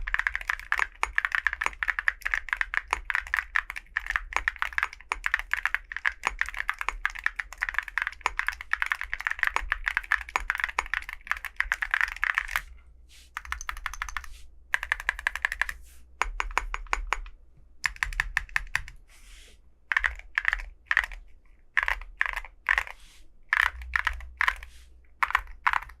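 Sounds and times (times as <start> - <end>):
mechanical keyboard typing: 0.0 - 12.6, 13.4 - 19.0, 19.9 - 26.0.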